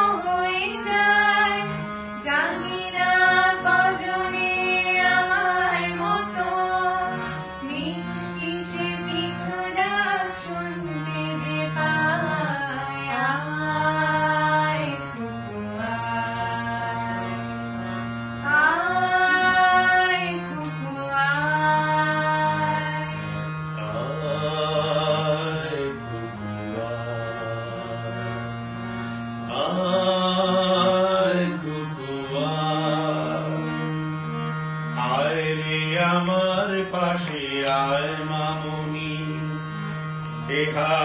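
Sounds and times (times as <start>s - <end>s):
voices singing together: 0.0s - 28.5s, 29.5s - 34.2s
held accompaniment drone: 0.0s - 41.0s.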